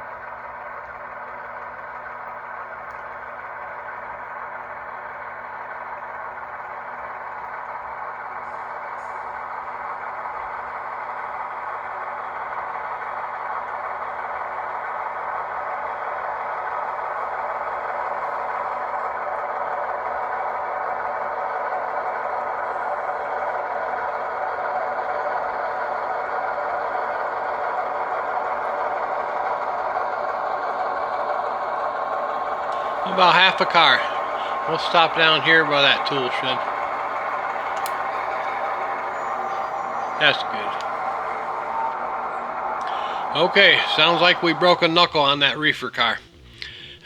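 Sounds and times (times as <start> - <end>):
diesel locomotive engine running: 0.0 - 47.0.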